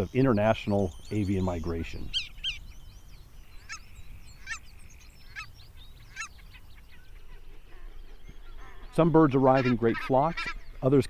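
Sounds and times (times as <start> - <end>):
sharp high bird calls: 0.0 - 10.9
birds chirping: 0.0 - 11.0.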